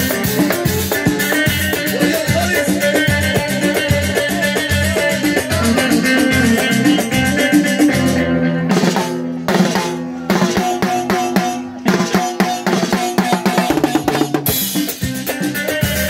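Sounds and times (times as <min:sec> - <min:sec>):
drum kit fast beat: 0:00.0 - 0:07.2, 0:08.8 - 0:16.0
band playing live: 0:00.0 - 0:16.0
electric guitar notes: 0:00.0 - 0:16.0.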